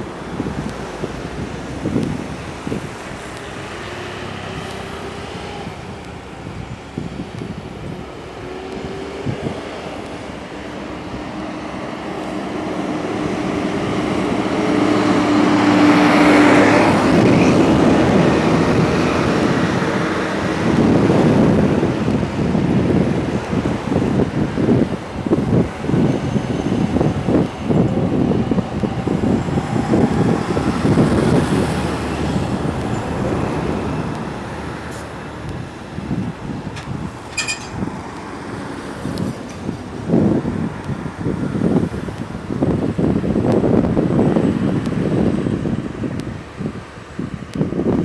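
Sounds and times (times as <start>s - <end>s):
bus passing close: 0.0s - 48.0s
heavy traffic engines pulling uphill: 0.0s - 48.0s.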